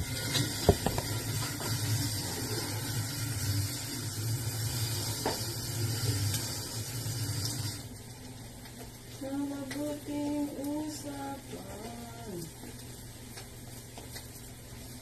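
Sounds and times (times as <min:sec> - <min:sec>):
low hum with hiss: 0:00.0 - 0:15.0.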